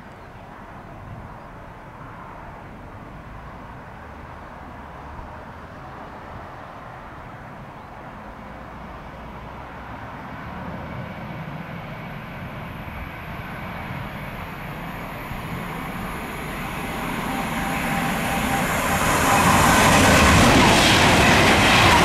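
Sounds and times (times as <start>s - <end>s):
approaching train: 0.0s - 22.0s.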